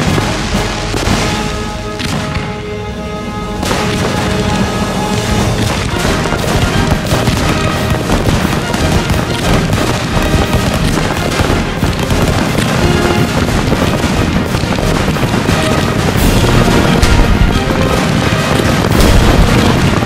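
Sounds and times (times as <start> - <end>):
fireworks cracking and booming: 0.0 - 20.0
music: 0.0 - 20.0.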